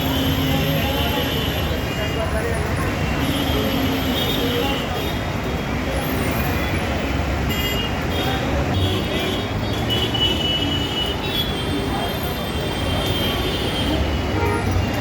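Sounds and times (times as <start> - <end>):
busy city road traffic: 0.0 - 15.0.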